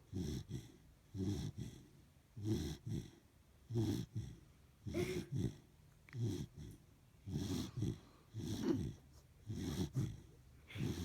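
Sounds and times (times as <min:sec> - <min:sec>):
dog snoring: 0:00.0 - 0:11.0.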